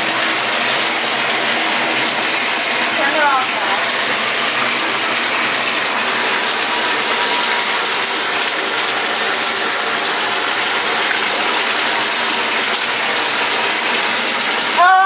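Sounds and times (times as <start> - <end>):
tap water pouring into tub: 0.0 - 15.0.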